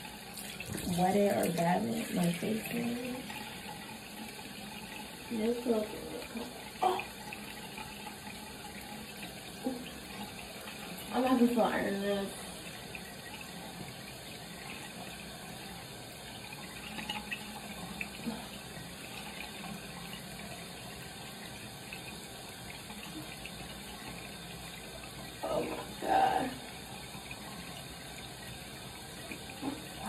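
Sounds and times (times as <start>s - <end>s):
sink tap running: 0.0s - 30.0s.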